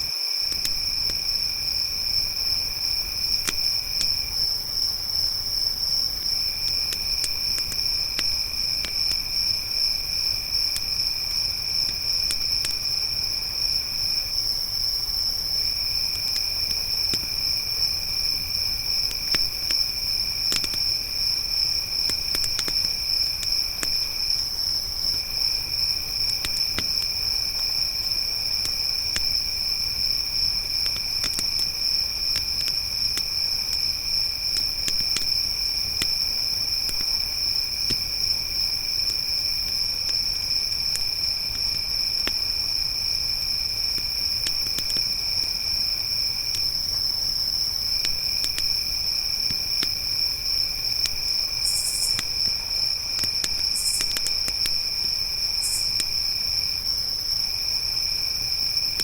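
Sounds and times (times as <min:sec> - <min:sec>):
crickets trilling: 0:00.0 - 0:59.0
lower insect trill: 0:00.0 - 0:59.0
campfire crackling: 0:00.1 - 0:57.6.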